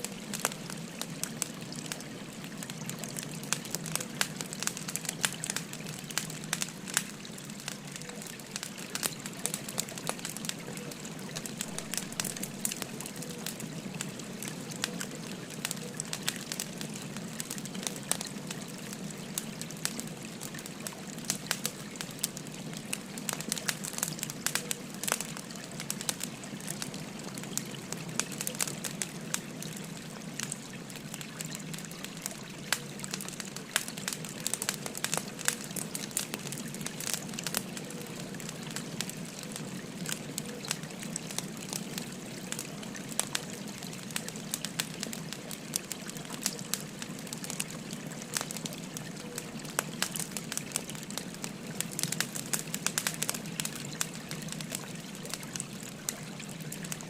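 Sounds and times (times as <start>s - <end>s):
babbling stream: 0.0s - 57.0s
wood fire crackling: 0.0s - 57.0s.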